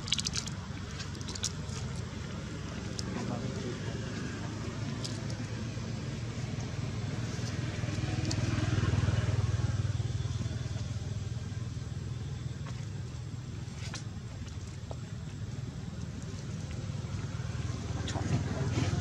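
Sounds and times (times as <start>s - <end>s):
passing vehicle engine rumble: 0.0s - 19.0s.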